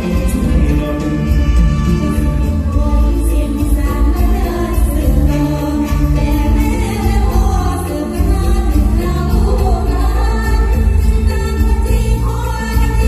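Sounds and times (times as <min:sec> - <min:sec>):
stage music through loudspeakers: 0:00.0 - 0:13.0.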